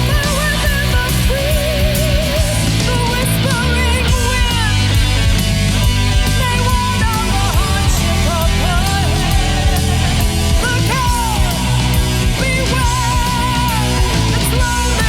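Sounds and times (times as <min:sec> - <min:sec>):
heavy punk rock music: 0:00.0 - 0:15.0.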